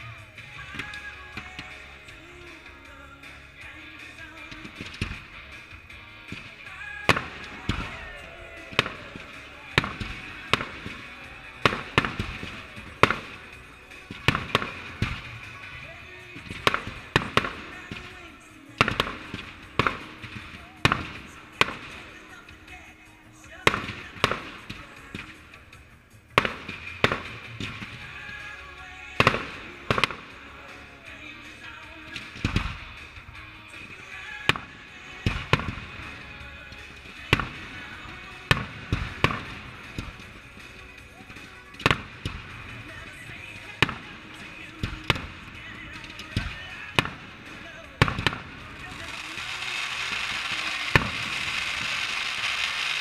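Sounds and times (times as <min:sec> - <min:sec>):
fireworks bursting with sharp bangs: 0:00.0 - 0:53.0.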